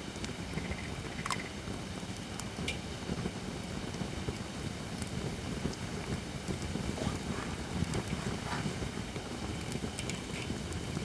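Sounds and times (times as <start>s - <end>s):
campfire flames rumbling: 0.0s - 11.0s
fire crackling and popping: 0.0s - 11.0s.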